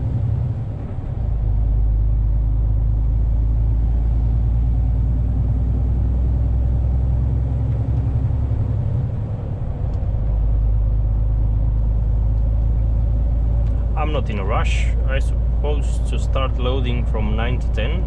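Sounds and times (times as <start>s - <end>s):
truck engine and tyres rumbling: 0.0s - 18.0s.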